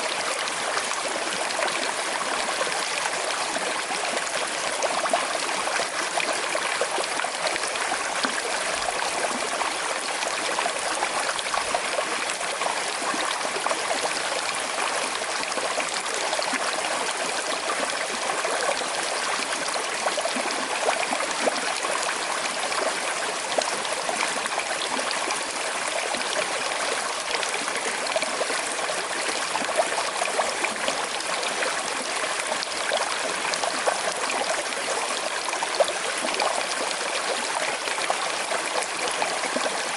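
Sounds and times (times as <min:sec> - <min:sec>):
river burbling over stones: 0:00.0 - 0:39.9.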